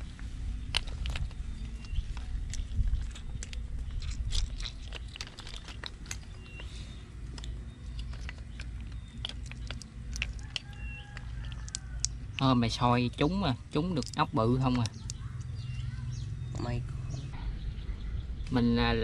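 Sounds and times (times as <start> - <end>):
snail shells clicking and crunching: 0.0 - 16.8
low steady rumble: 0.0 - 19.0.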